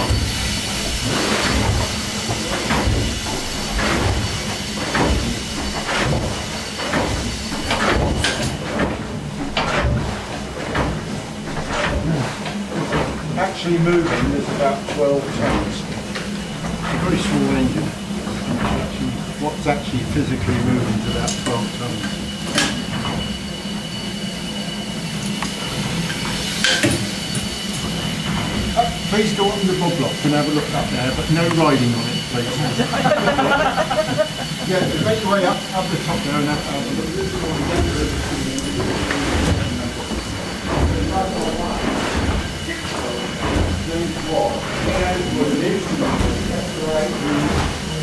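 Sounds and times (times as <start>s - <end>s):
steam engine rhythmic rumble: 0.0s - 48.0s.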